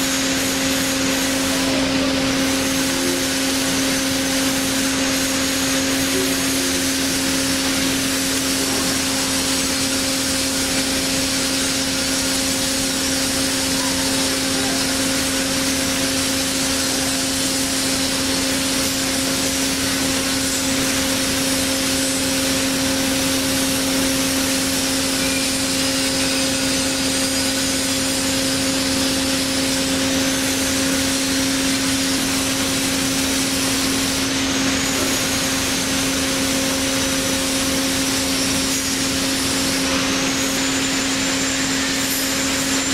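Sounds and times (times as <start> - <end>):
band saw machine hum: 0.0 - 42.9.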